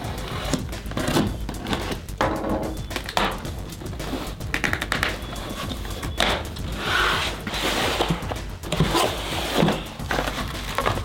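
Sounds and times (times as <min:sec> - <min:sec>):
cardboard scraping and rustling: 0:00.0 - 0:11.0.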